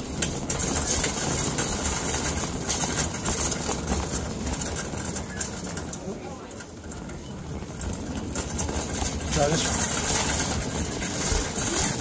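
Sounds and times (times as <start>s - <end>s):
wire basket rattling: 0.0s - 7.1s, 7.8s - 12.0s
shopping cart wheels rumbling: 0.0s - 12.0s.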